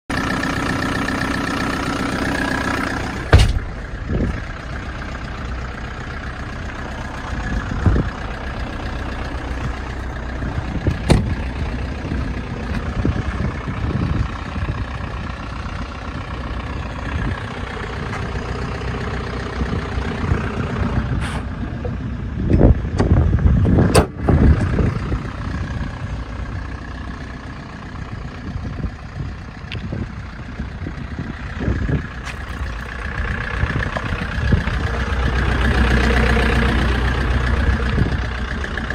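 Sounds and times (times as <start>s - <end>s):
diesel engine idling: 0.1s - 38.9s.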